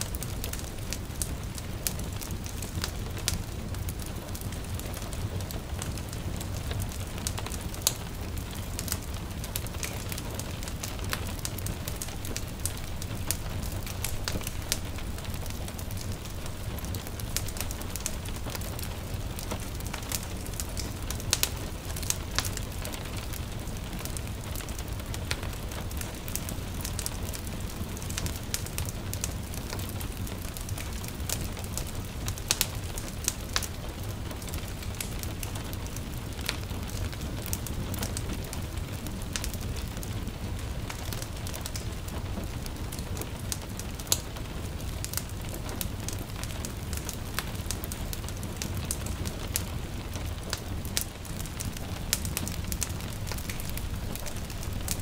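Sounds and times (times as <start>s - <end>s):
light rain hiss: 0.0s - 55.0s
wood fire crackling and popping: 0.0s - 55.0s.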